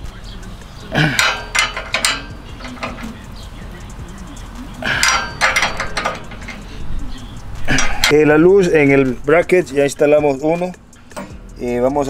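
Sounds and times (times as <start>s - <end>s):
metal tools clinking and rattling: 0.0s - 12.0s.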